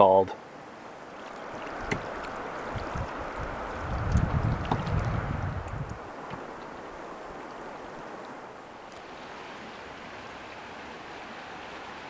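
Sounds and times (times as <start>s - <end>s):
river water hissing: 0.0s - 12.0s.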